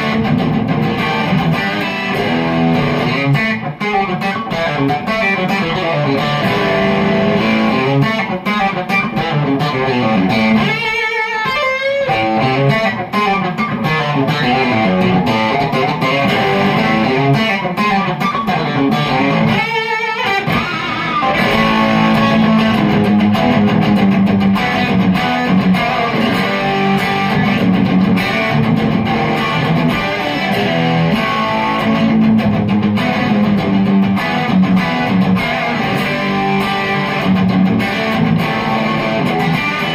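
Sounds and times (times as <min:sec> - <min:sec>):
electric guitar country licks: 0:00.0 - 0:39.9.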